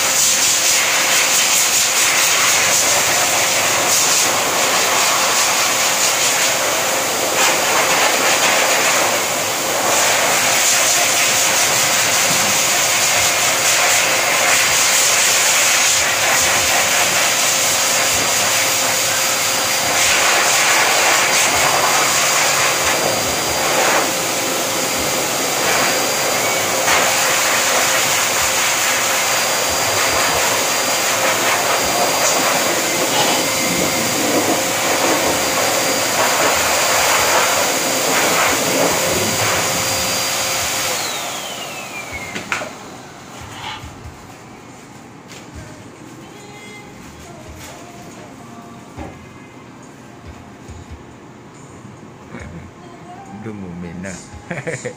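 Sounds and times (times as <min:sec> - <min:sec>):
blower dryer running: 0:00.0 - 0:54.9.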